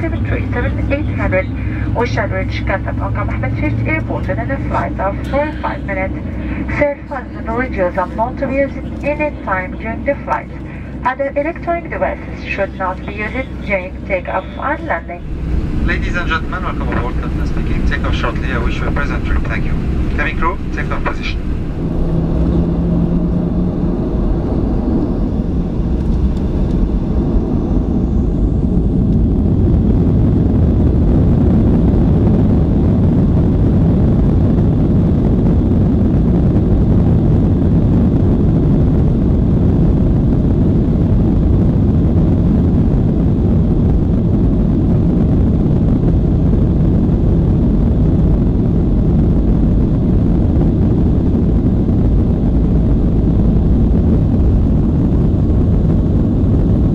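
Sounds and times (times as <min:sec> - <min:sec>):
deep engine rumble: 0:00.0 - 0:56.9
jet engine whine: 0:00.0 - 0:56.9.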